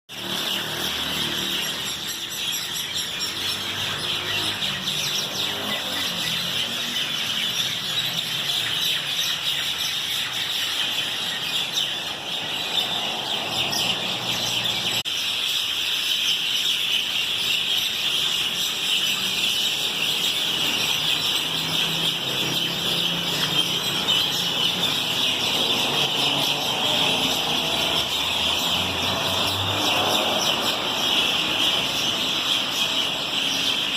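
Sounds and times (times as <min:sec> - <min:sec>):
chorus of birds chirping: 0:00.1 - 0:33.9.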